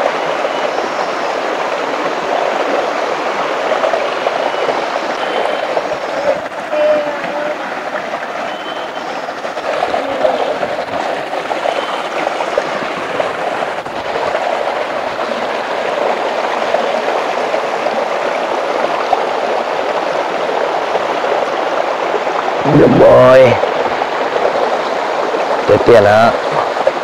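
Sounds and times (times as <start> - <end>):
stream running over stones: 0.0 - 27.0.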